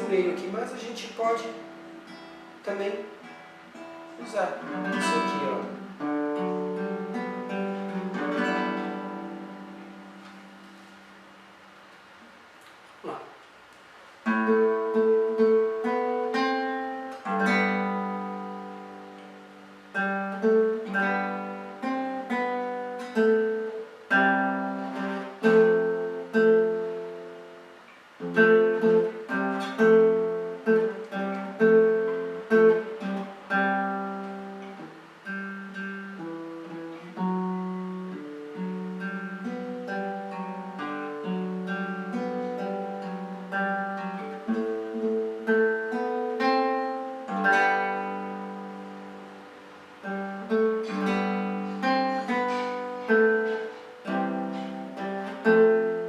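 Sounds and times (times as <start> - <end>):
acoustic guitar chords: 0.0 - 56.0.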